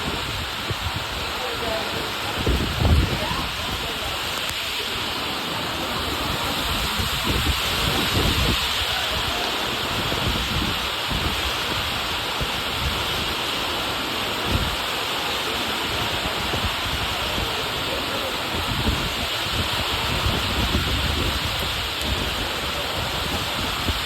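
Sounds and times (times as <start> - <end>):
wind buffeting microphone: 0.0 - 13.6, 16.0 - 24.0
heavy rain pouring: 0.0 - 24.0.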